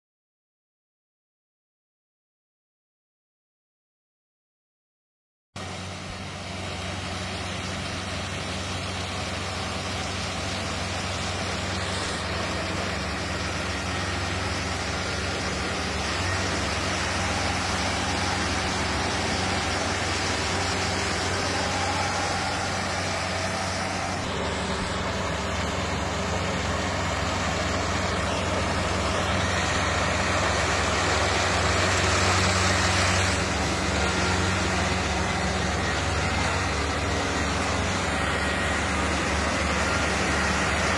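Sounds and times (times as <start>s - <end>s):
combine harvester engine humming: 5.6s - 40.9s.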